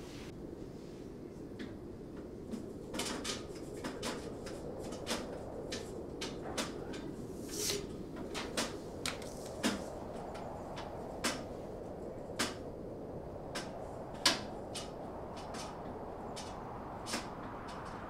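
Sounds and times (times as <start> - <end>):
low rush of air: 0.0 - 18.0.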